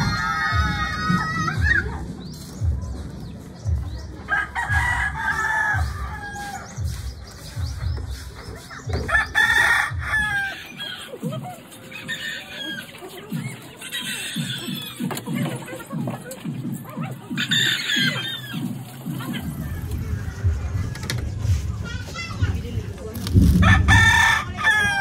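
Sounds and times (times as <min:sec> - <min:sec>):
dull low thumps: 0:00.0 - 0:10.4, 0:15.3 - 0:25.0.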